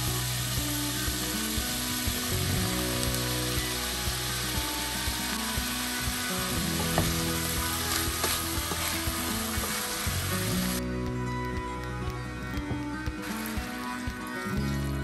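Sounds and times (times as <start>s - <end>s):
vegetables sizzling in oil: 0.0s - 10.9s, 12.6s - 15.0s.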